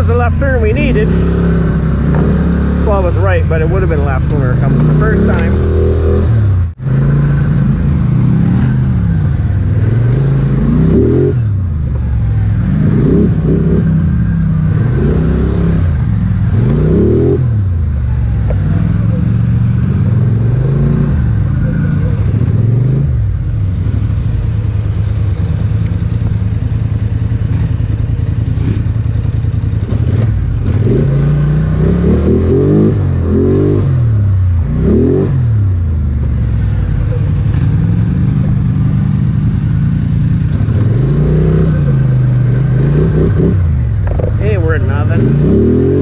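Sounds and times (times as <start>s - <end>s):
atv engine revving: 0.0s - 46.0s.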